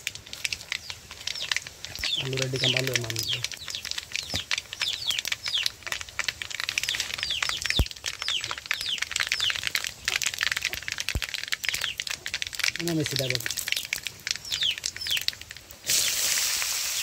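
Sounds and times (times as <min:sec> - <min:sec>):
seeds crackling in hot oil: 0:00.0 - 0:17.0
bird chirping: 0:00.7 - 0:16.2.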